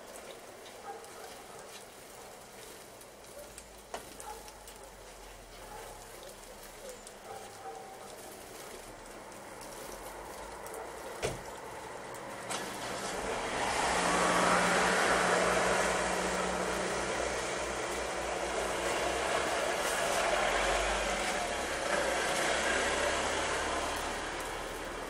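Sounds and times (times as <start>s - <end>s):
vehicle passing on street: 0.0s - 25.0s.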